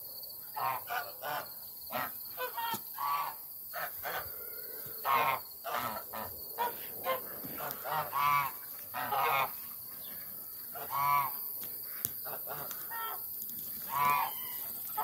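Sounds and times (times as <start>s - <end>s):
geese honking: 0.5s - 15.0s.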